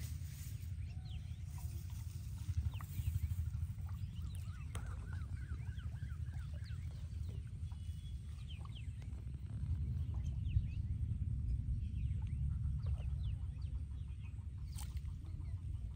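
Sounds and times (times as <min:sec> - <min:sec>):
birds chirping: 0:00.0 - 0:15.9
steady low rumble: 0:00.0 - 0:15.9.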